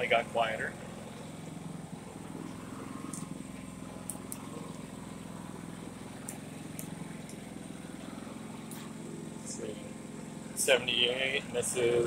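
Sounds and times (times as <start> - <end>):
generator running: 0.0 - 12.0.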